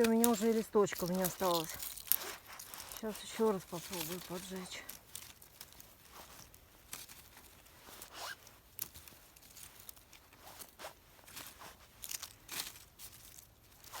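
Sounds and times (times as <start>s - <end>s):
paper and twigs rustling and snapping: 0.0s - 14.0s.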